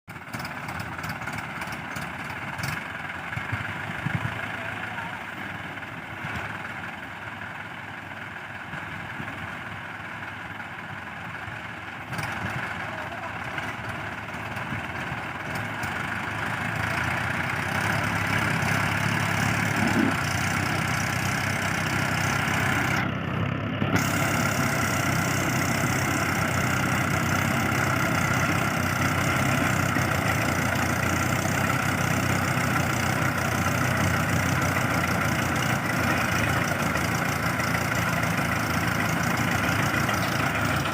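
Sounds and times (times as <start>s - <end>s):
diesel tractor engine under load: 0.1s - 40.9s.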